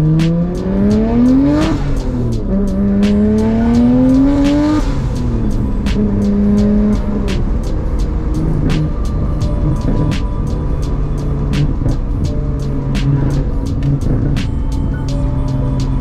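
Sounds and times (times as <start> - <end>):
car engine revving from inside: 0.0 - 16.0.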